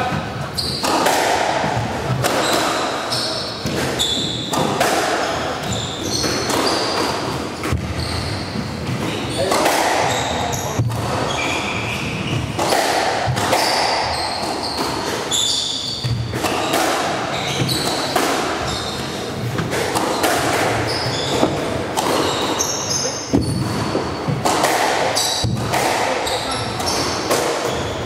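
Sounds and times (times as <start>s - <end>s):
shoes squeaking on wooden floor: 0.4s - 1.0s, 1.9s - 4.6s, 5.3s - 12.7s, 13.6s - 24.5s, 26.2s - 28.0s.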